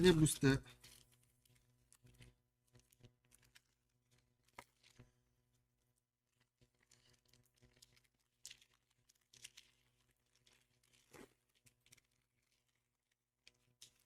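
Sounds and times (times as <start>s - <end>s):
foil wrapper tearing and crinkling: 0.1s - 5.2s, 6.3s - 14.0s.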